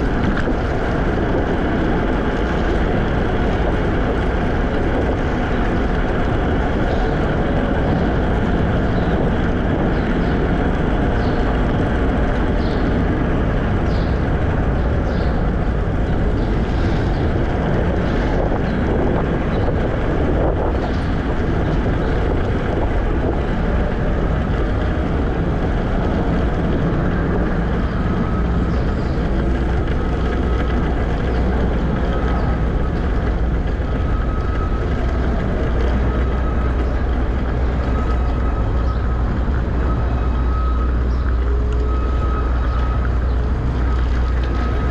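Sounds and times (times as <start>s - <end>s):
scooter wheels rumbling on pavement: 0.0s - 44.9s
wind on microphone: 0.0s - 44.9s.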